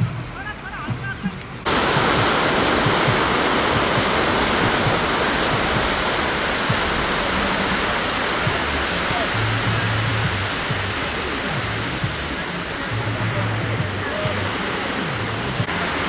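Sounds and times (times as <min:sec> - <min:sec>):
loud steady rushing noise: 0:00.0 - 0:16.0.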